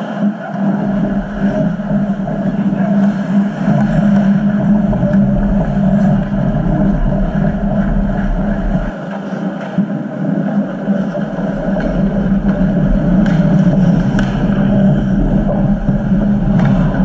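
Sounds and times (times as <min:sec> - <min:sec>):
loud low hum: 0:00.3 - 0:09.1, 0:10.2 - 0:17.0.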